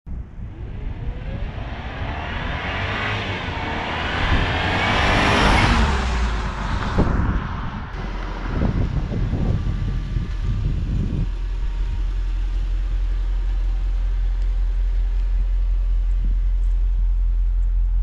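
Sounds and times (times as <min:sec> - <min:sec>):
car driving past: 0:00.2 - 0:16.8.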